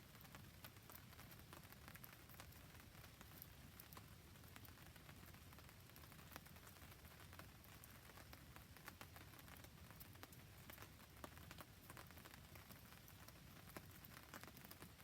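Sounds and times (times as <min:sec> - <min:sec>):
faint rain hiss: 0:00.0 - 0:15.0
campfire crackling: 0:00.1 - 0:15.0.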